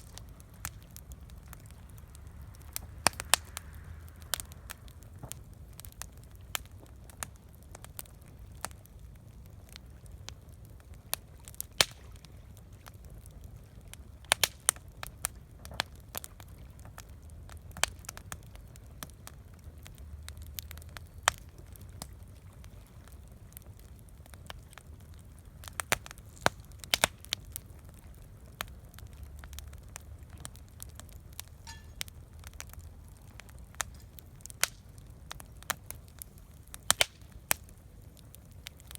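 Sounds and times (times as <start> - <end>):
campfire crackling and popping: 0.0 - 38.9
fire low rumble: 0.0 - 38.9.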